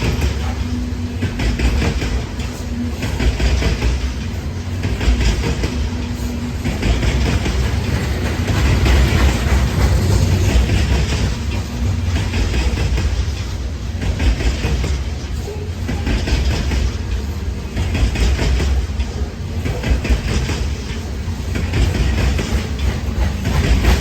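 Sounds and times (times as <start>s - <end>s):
freight train rumbling past: 0.0s - 24.0s
wheels clacking over rail joints: 0.0s - 24.0s.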